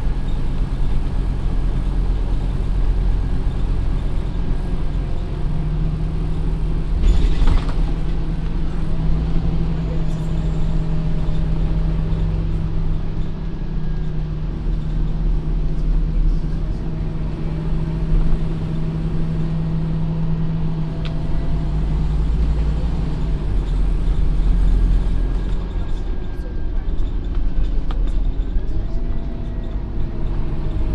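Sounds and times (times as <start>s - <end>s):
diesel bus engine drone: 0.0s - 30.9s.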